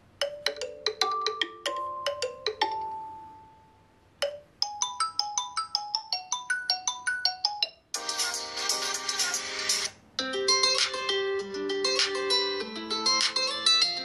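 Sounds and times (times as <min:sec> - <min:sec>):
smartphone ringtone melody: 0:00.2 - 0:14.0.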